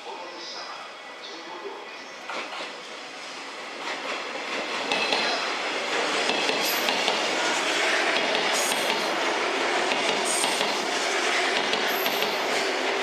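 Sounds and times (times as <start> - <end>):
electric train rolling: 1.9 - 13.0.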